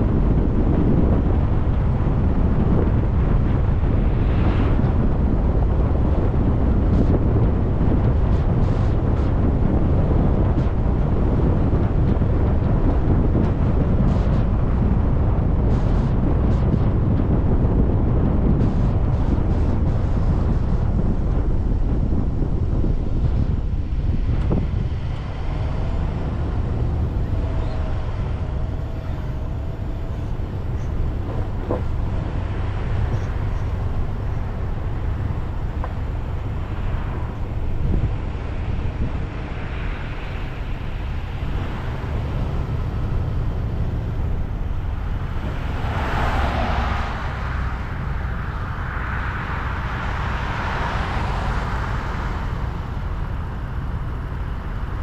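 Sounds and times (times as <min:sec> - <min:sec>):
tyres and engine rumble: 0:00.0 - 0:55.0.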